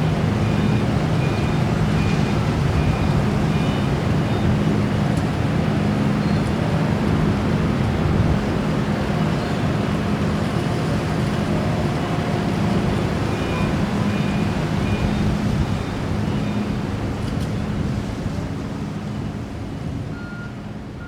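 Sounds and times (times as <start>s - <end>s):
harbour and traffic noise: 0.0s - 21.0s
low engine hum: 0.0s - 21.0s.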